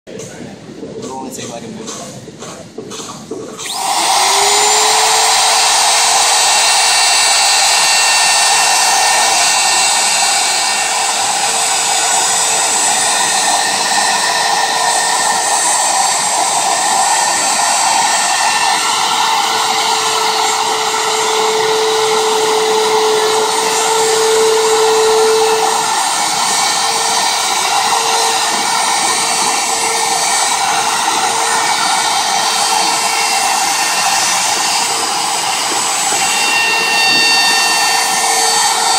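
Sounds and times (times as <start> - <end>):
electric router cutting wood: 3.6 - 38.9.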